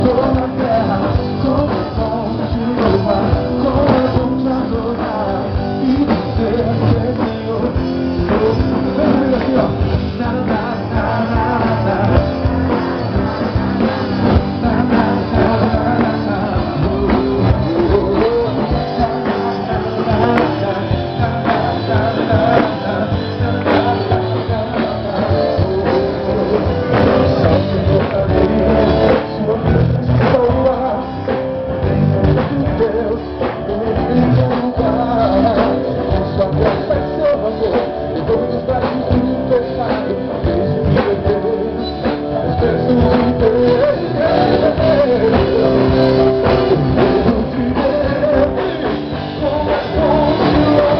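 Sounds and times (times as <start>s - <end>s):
person singing: 0.0s - 50.9s
rock band playing: 0.0s - 50.9s.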